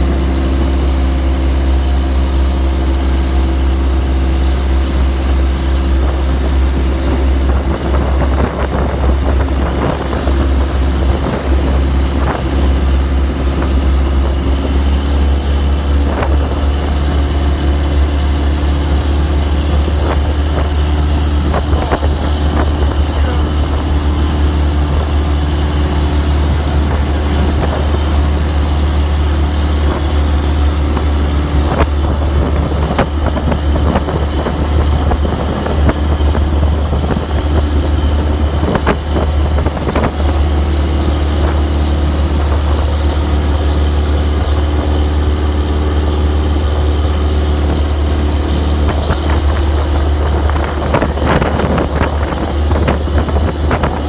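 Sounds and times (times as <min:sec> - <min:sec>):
boat engine droning: 0:00.0 - 0:54.0
water noise: 0:00.0 - 0:54.0
wind noise: 0:00.0 - 0:54.0.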